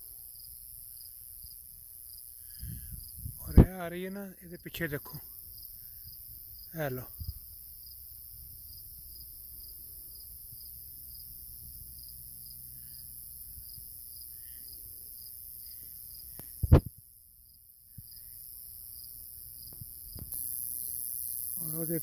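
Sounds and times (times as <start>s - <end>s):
crickets chirping: 0.0s - 22.0s
high insect hiss: 0.0s - 22.0s.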